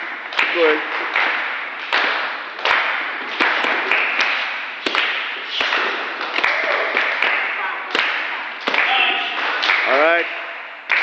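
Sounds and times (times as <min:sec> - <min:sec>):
group clapping in unison: 0:00.0 - 0:11.0.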